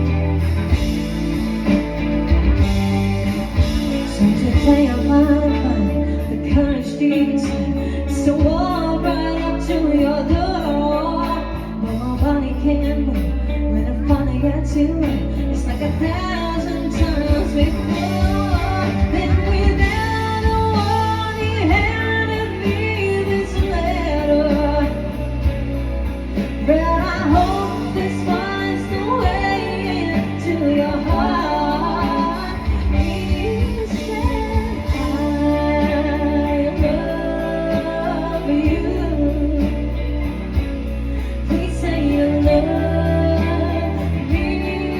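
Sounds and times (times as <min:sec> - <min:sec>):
bass line: 0:00.0 - 0:44.9
guitar: 0:00.0 - 0:44.9
person singing: 0:00.0 - 0:44.9.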